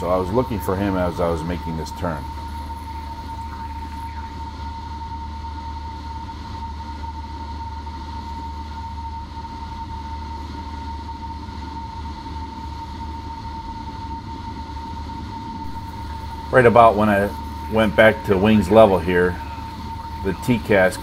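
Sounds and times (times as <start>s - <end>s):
high whine: 0.0s - 11.4s, 15.6s - 21.0s
piston engine and propeller drone: 0.0s - 21.0s.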